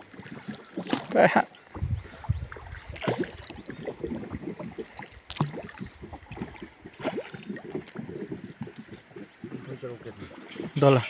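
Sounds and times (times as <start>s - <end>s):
paddle strokes splashing: 0.0s - 11.0s
water lapping against boat: 0.0s - 11.0s.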